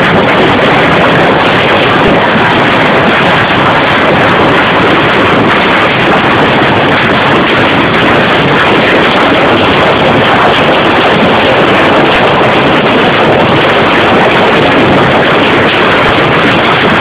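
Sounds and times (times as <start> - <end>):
hail and heavy rain pelting: 0.0 - 17.0.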